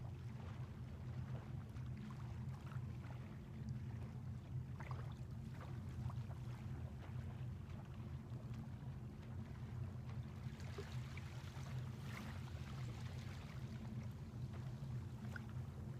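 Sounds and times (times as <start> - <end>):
little splashes: 0.0 - 15.9
small waves lapping on shore: 0.0 - 15.9
steady low hum: 0.0 - 15.9.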